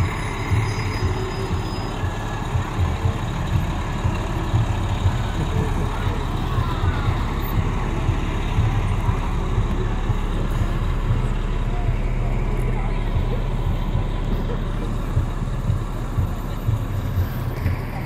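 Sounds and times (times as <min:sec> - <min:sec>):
faint voices: 0:00.0 - 0:18.0
heavy vehicle engine rumbling: 0:00.0 - 0:18.0.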